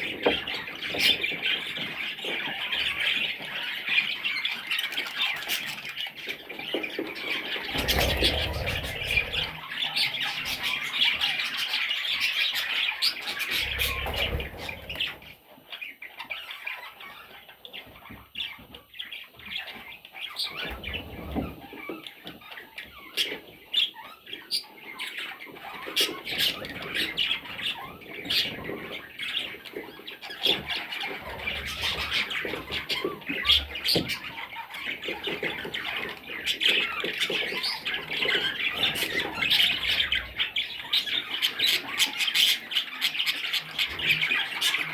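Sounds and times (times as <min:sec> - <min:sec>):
budgerigar chicks chattering: 0:00.0 - 0:44.9.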